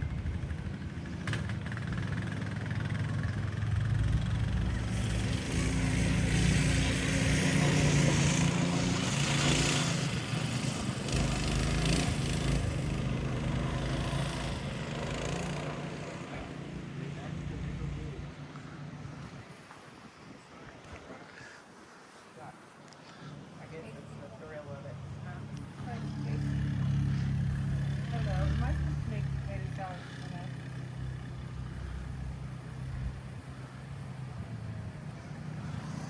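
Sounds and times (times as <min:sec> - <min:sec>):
single-cylinder engine running: 0:00.0 - 0:18.7, 0:24.6 - 0:36.0.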